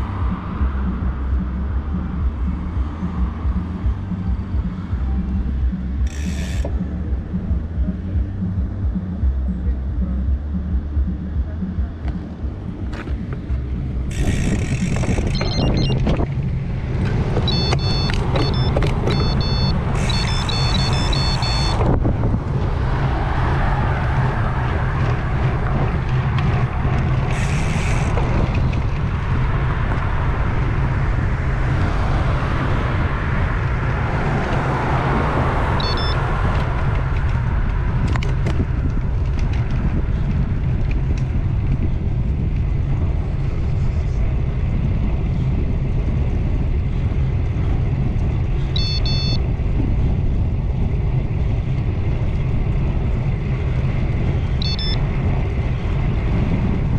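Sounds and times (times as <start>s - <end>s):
car passing: 0.0s - 56.9s
tyre and road noise: 0.0s - 56.9s
wind rumble on microphone: 0.0s - 56.9s.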